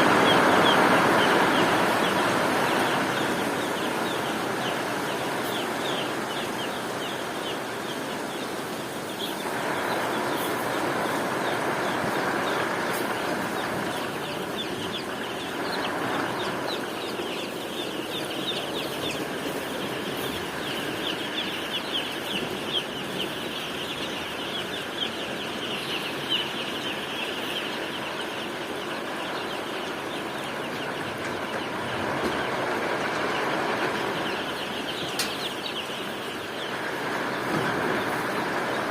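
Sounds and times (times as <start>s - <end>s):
chickens clucking and peeping: 0.0s - 38.9s.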